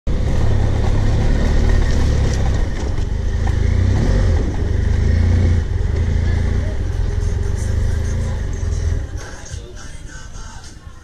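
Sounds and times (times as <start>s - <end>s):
motorcycle engine running: 0.1s - 9.2s.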